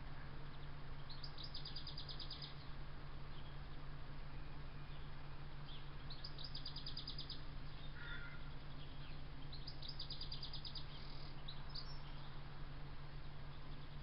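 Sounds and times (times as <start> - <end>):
low background hum: 0.0 - 14.0
songbird trilling: 0.5 - 3.7, 4.4 - 12.5
bird chirps: 0.5 - 3.8, 4.4 - 12.5.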